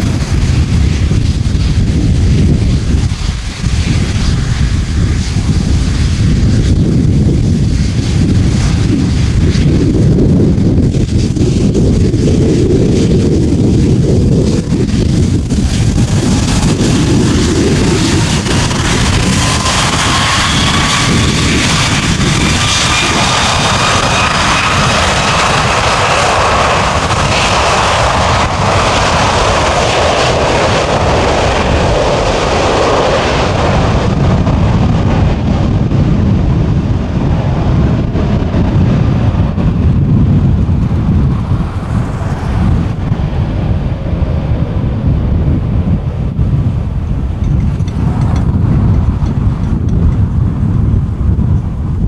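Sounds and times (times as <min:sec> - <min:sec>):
jet engine roar: 0:00.0 - 0:52.0
whining fan tones: 0:00.0 - 0:52.0.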